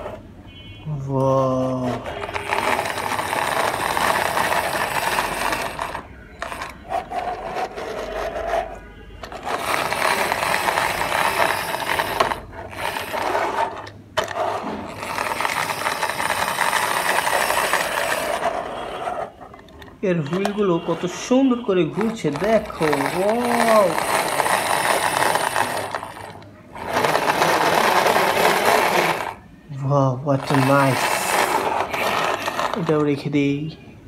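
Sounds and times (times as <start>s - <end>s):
toy car wheels whirring and rattling: 0.0s - 0.2s, 1.5s - 29.4s, 30.4s - 33.4s.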